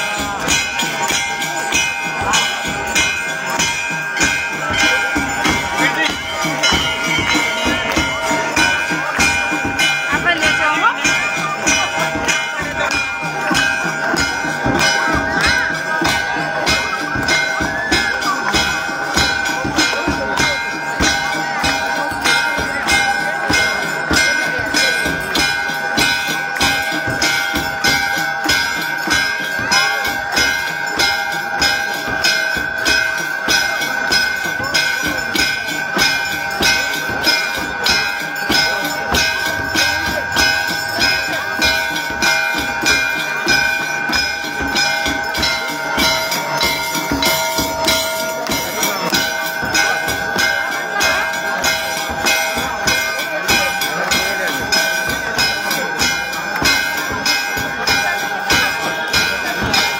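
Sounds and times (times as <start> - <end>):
temple bells ringing: 0.0 - 59.9.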